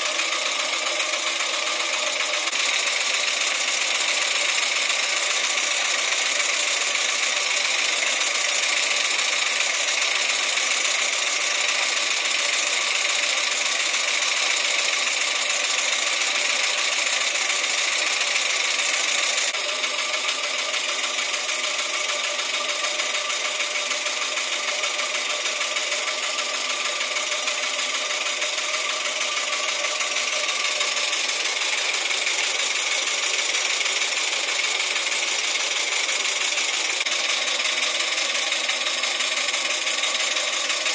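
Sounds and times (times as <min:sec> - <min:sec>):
model steam engine running: 0:00.0 - 0:40.9.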